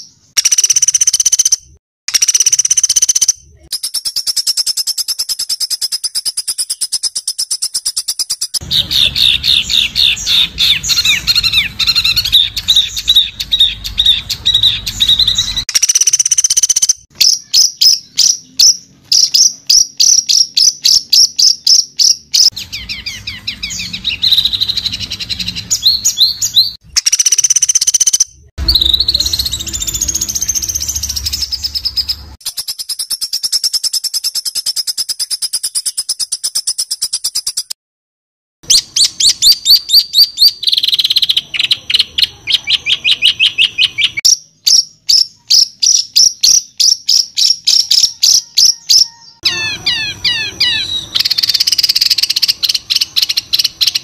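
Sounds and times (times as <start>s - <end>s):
songbirds trilling and chattering: 2.8s - 37.5s, 38.9s - 54.0s.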